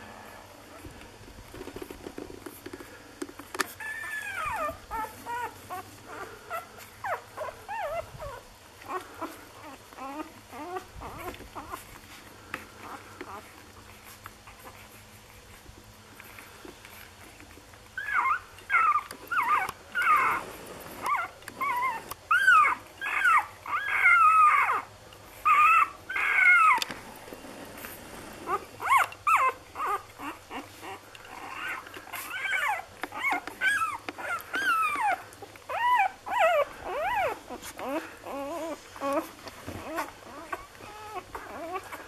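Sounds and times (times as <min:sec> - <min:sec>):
puppies whimpering and squealing: 0:03.6 - 0:42.0.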